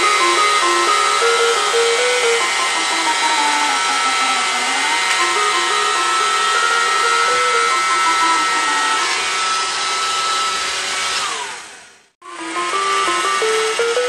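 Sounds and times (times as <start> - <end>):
short electronic notes tune: 0.0 - 9.6, 12.2 - 14.0
robot vacuum motor whir: 0.0 - 13.8.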